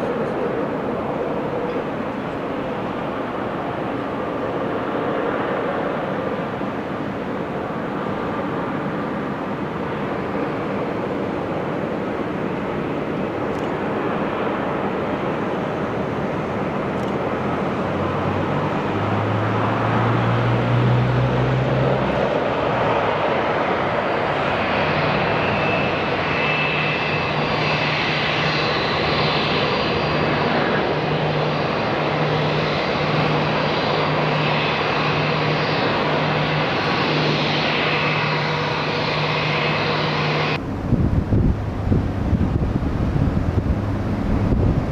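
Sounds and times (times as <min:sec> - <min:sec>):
airplane engines rushing: 0:00.0 - 0:44.9.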